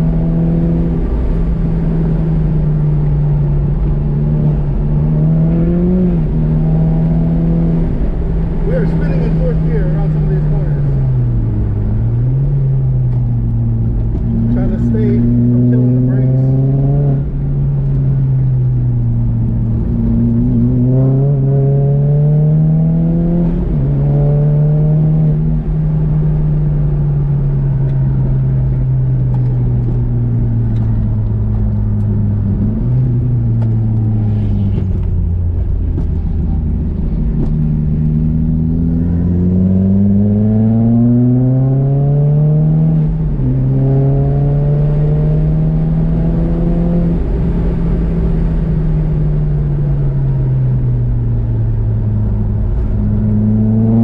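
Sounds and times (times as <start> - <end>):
car engine at full throttle: 0.0 - 54.0.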